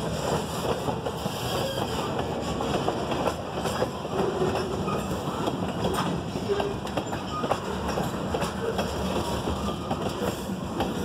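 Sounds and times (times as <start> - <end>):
train wheels clattering over rails: 0.0 - 11.0.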